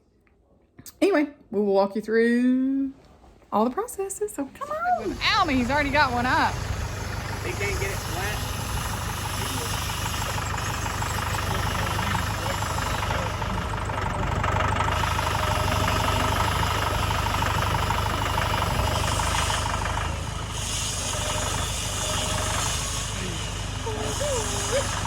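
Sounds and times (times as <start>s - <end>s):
tractor engine running: 4.8s - 25.0s.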